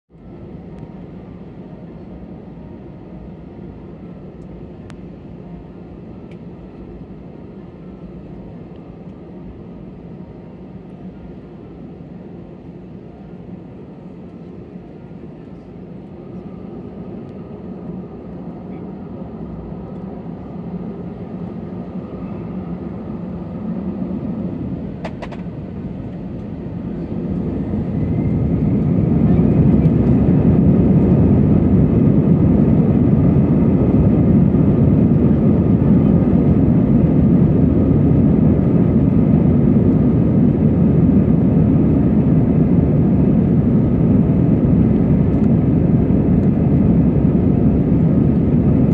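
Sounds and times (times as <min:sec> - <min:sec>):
jet engines humming in cabin: 0:00.1 - 0:48.9.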